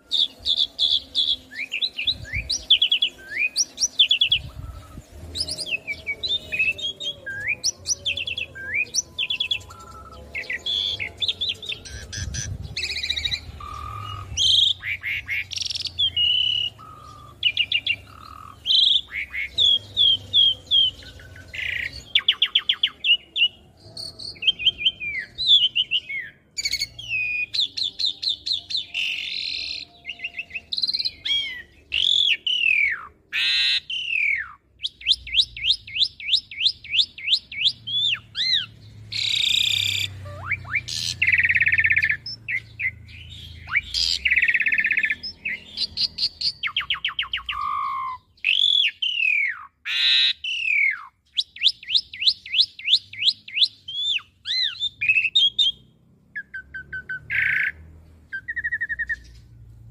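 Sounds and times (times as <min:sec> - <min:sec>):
starling singing: 0:00.0 - 0:59.4.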